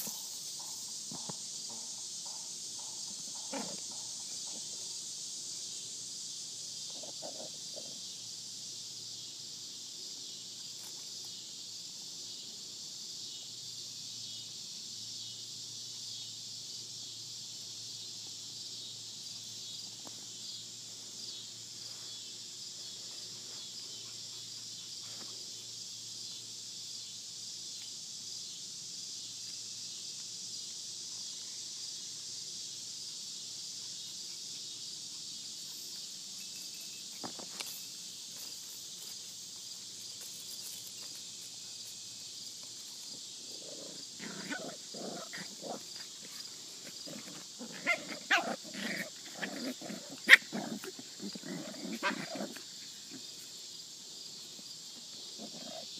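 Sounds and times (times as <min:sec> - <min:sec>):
cicadas droning: 0:00.0 - 0:55.9.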